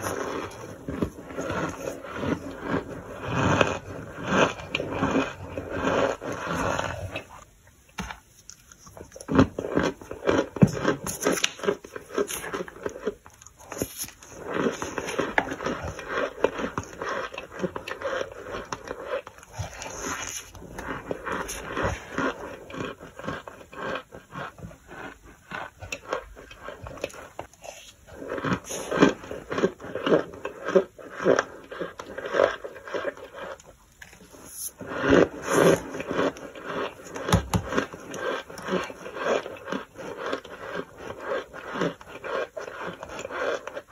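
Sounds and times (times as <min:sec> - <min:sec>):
crunchy chewing: 0:00.0 - 0:07.5, 0:08.1 - 0:43.9.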